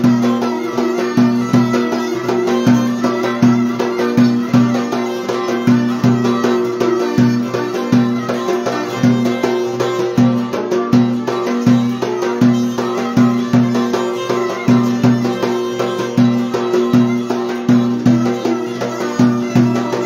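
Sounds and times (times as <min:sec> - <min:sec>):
plucked lute rhythm: 0:00.0 - 0:20.0
violin melody: 0:00.0 - 0:20.0.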